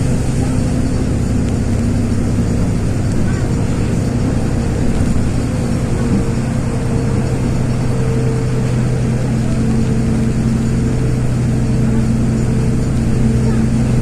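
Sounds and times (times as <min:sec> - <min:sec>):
bus diesel engine hum: 0:00.0 - 0:14.0
road and tyre rumble: 0:00.0 - 0:14.0.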